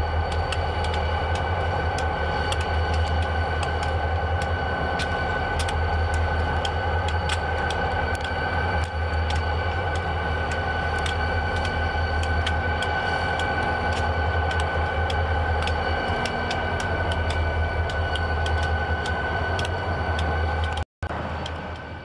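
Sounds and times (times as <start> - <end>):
diesel train low rumble: 0.0 - 22.0
sharp clicks: 0.3 - 20.8.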